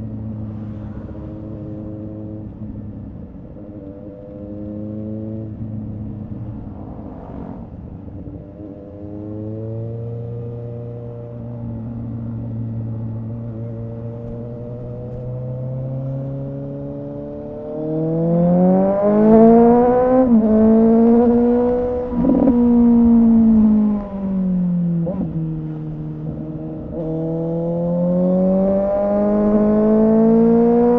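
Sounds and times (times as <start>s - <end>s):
motorcycle engine revving: 3.7s - 30.9s.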